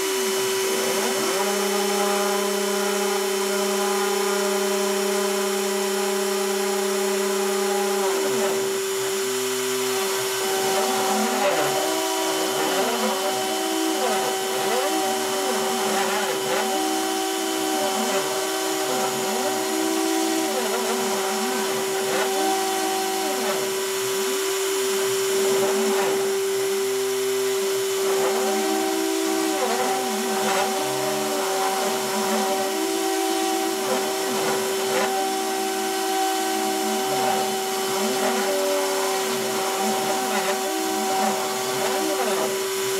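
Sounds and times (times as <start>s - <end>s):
spindle high whine: 0.0s - 42.9s.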